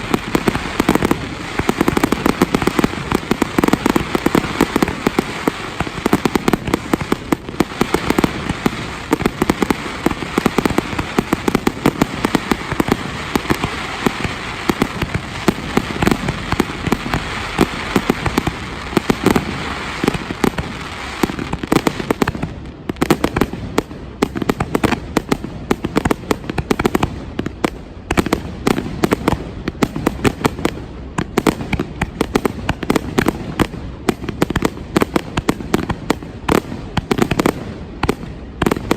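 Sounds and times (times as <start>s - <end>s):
fireworks bangs and crackling: 0.0s - 38.9s
steady hiss: 0.0s - 38.9s.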